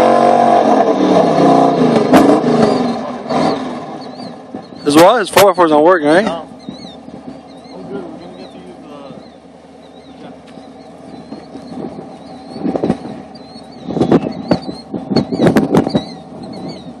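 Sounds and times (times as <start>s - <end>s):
off-road engine revving roughly: 0.0s - 17.0s.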